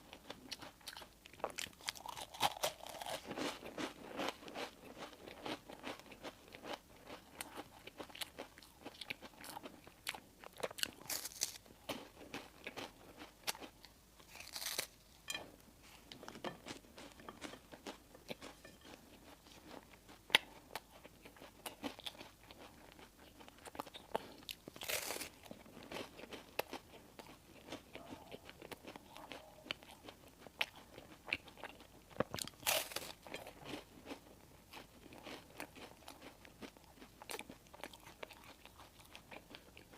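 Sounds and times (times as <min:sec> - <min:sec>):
crunching and chewing: 0:00.0 - 0:39.9.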